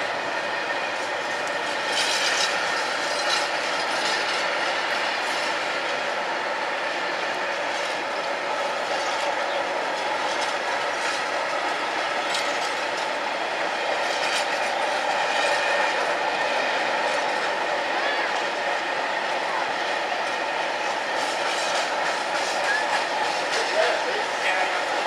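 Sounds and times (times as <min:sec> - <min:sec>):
freight train rumbling past: 0:00.0 - 0:25.0
train wagons clanking: 0:00.9 - 0:06.0, 0:07.6 - 0:18.8, 0:19.4 - 0:25.0.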